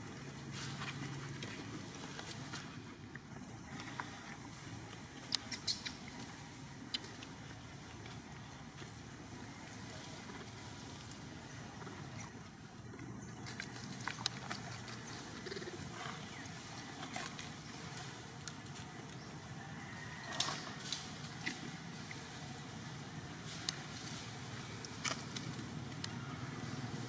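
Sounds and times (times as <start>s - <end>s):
low steady rumble: 0.0s - 27.0s.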